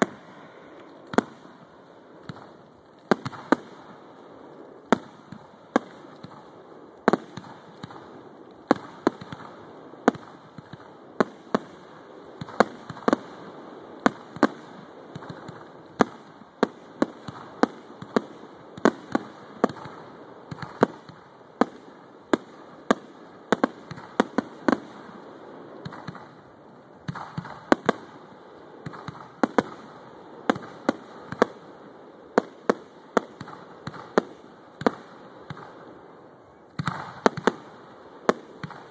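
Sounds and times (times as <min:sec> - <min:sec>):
fireworks bangs: 0:00.0 - 0:38.9
steady background noise: 0:00.0 - 0:38.9.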